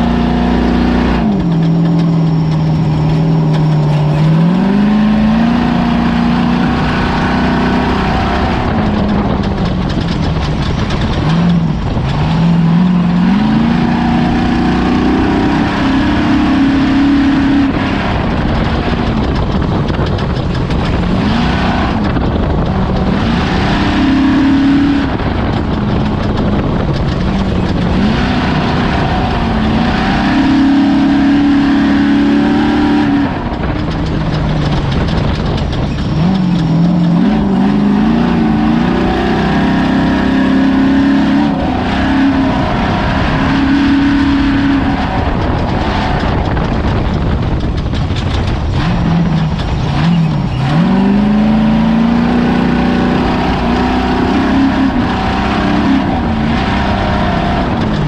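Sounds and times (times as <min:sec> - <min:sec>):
race vehicle engine revving: 0:00.0 - 0:58.0
rough rumbling noise: 0:00.0 - 0:58.0.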